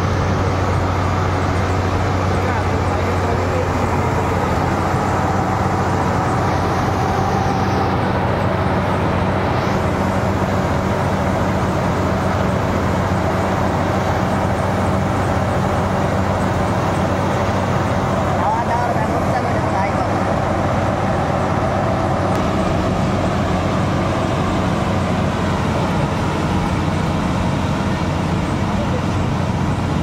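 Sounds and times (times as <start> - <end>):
combine harvester engine drone: 0.0 - 30.0
steady low hum: 0.0 - 30.0.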